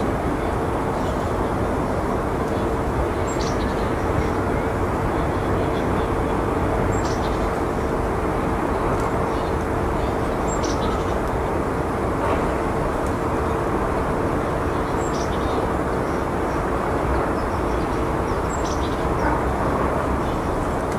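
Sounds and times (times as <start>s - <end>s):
faint steady hum: 0.0s - 20.9s
outdoor background rumble: 0.0s - 20.9s.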